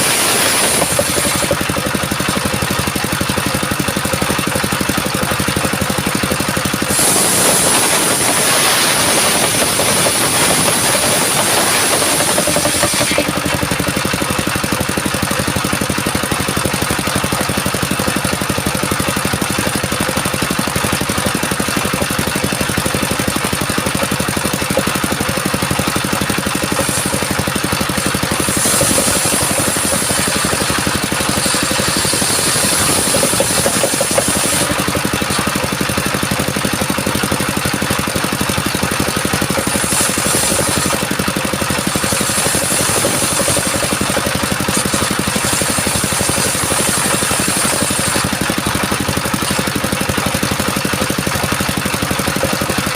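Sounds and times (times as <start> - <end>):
circular saw ripping wood: 0.0 - 2.8, 6.3 - 16.8, 20.3 - 37.7, 38.5 - 52.9
diesel engine running: 0.0 - 52.9.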